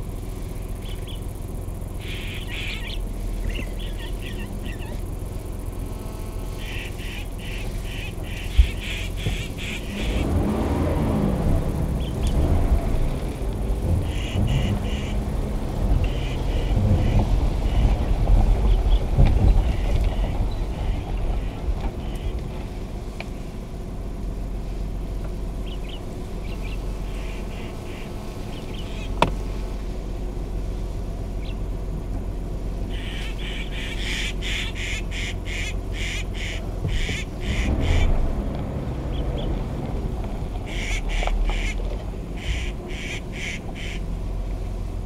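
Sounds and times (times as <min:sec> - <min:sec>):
birds calling: 0:00.0 - 0:23.4, 0:25.2 - 0:30.4, 0:31.2 - 0:31.8, 0:32.6 - 0:44.2
steady low rumble: 0:00.0 - 0:45.0.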